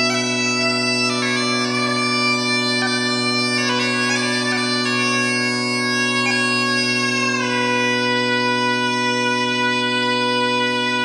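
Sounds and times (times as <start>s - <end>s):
bagpipes playing: 0.0s - 11.0s.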